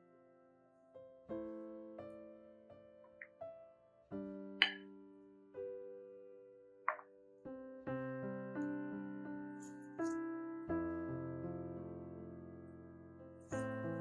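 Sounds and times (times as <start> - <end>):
gentle solo piano music: 0.0 - 14.0.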